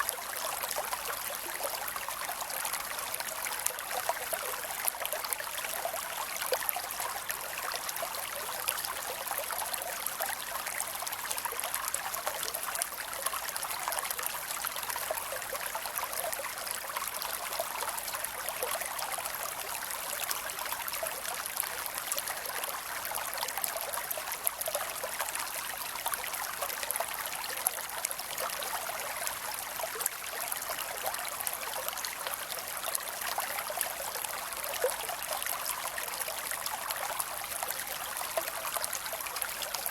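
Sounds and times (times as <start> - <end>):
creek water over rocks: 0.0 - 39.9.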